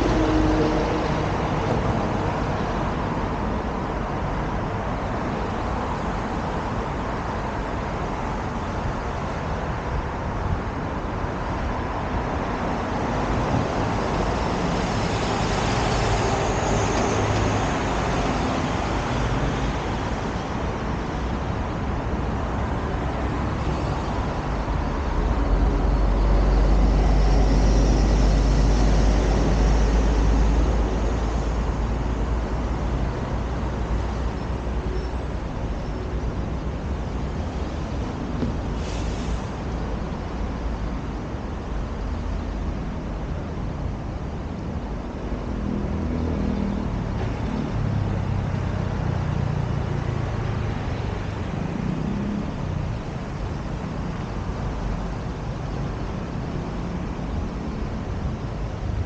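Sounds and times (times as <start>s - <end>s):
deep traffic rumble: 0.0s - 59.0s
passing cars and buses: 0.0s - 59.0s.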